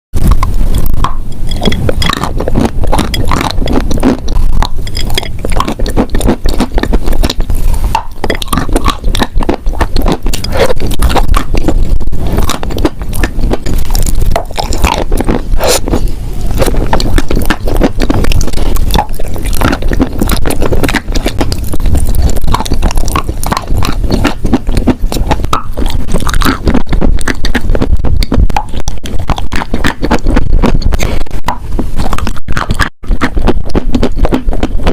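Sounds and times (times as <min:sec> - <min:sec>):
chewing wet chalk: 0:00.2 - 0:34.9.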